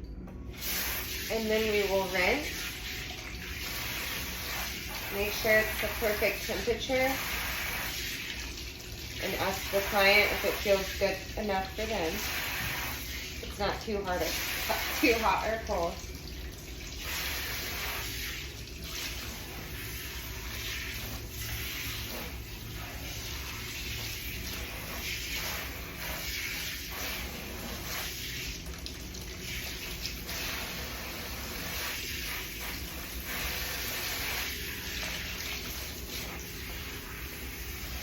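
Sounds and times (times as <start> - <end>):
water spraying on hair: 0.5 - 38.0.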